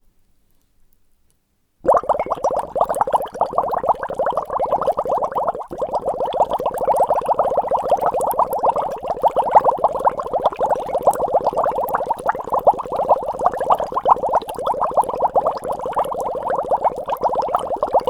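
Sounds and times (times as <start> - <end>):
water bubbling fast: 1.8 - 18.0.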